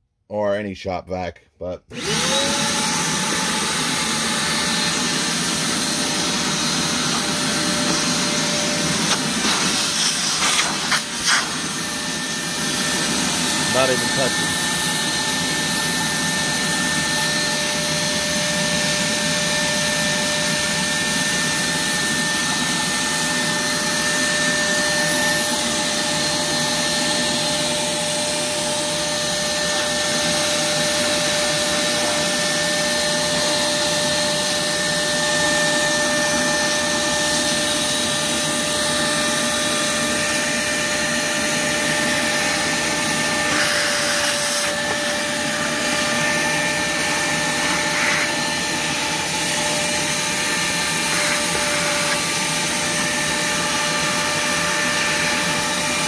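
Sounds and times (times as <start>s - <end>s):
shop vacuum running: 1.9s - 56.0s.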